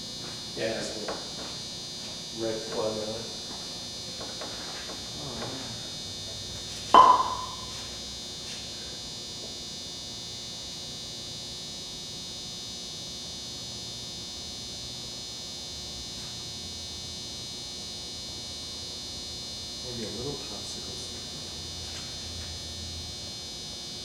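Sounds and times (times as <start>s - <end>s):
high-pitched electrical buzz: 0.0s - 24.0s.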